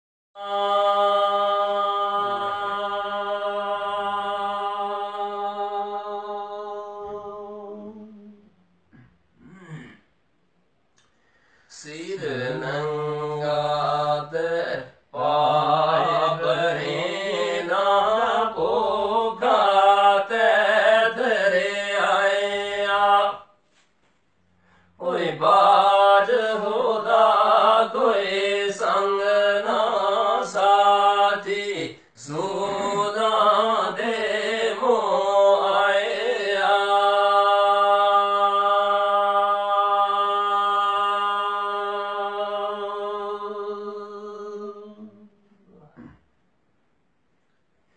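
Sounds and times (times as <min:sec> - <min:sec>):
men singing devotional chant: 0:00.4 - 0:08.4, 0:11.7 - 0:23.5, 0:25.0 - 0:46.2.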